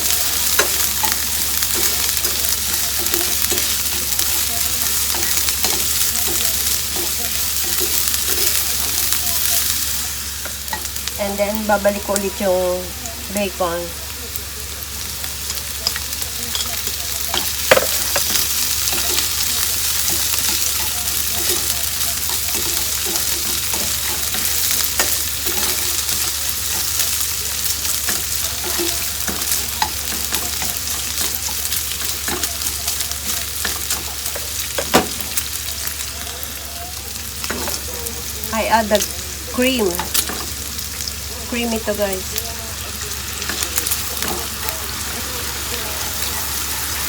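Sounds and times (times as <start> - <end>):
utensil clicking against pan: 0.0 - 11.1, 15.4 - 36.5, 37.2 - 38.2, 39.9 - 41.2, 42.9 - 47.0
food sizzling in a frying pan: 0.0 - 47.0.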